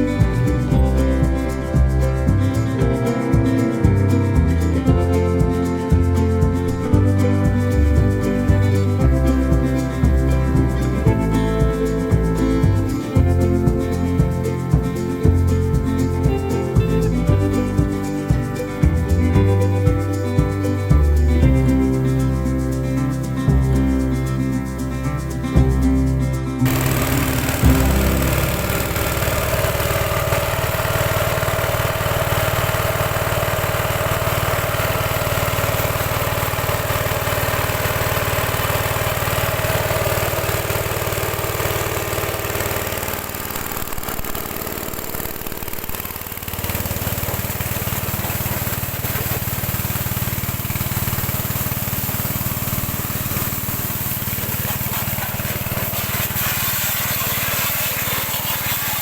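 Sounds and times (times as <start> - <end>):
power sprayer engine running: 0.0 - 59.0.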